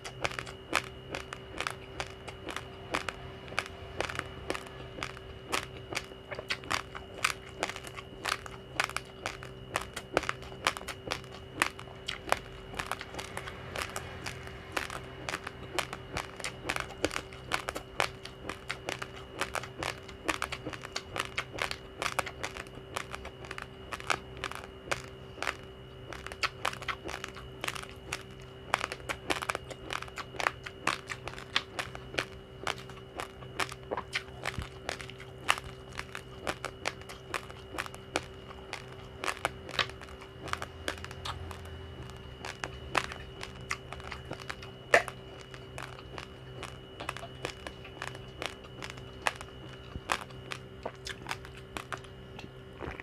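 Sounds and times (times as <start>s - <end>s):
faint hum: 0.0s - 53.0s
high whine: 0.0s - 53.0s
teeth crunching raw rice: 0.0s - 53.0s.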